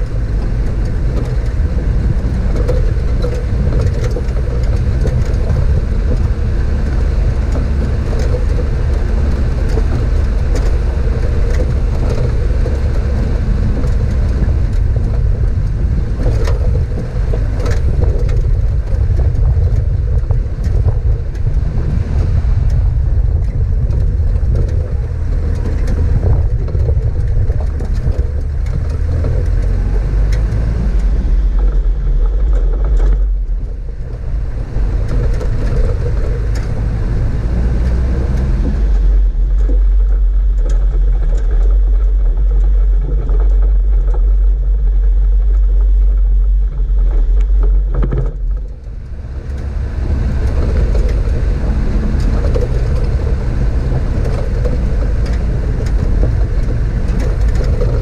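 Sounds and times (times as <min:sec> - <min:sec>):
vehicle driving on rough track: 0:00.0 - 0:58.0.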